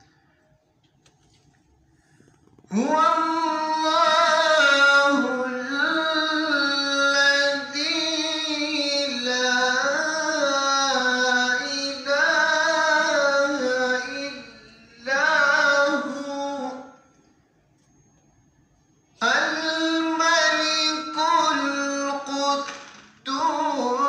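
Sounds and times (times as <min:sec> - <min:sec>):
man reciting melodically: 0:02.7 - 0:17.2, 0:19.2 - 0:24.0.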